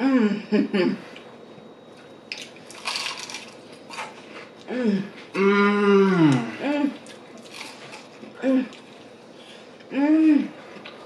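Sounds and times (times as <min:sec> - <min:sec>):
short hum-like voice: 0:00.0 - 0:01.9, 0:04.0 - 0:11.0.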